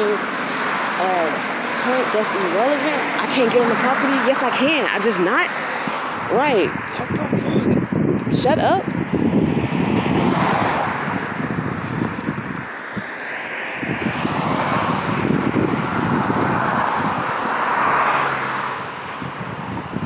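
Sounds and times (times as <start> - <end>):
vehicle passing: 0.0 - 20.0.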